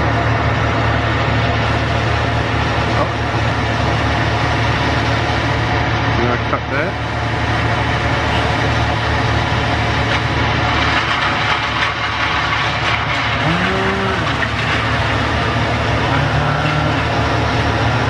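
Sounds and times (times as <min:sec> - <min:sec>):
large engine running steadily: 0:00.0 - 0:18.0.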